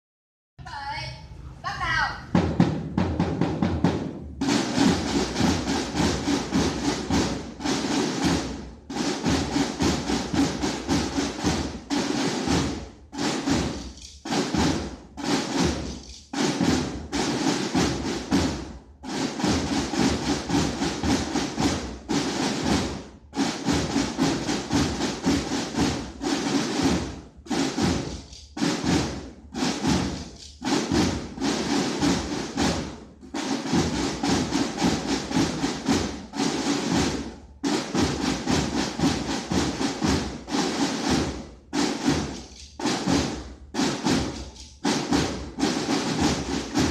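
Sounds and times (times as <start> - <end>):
snare drums in unison: 0.6 - 46.9.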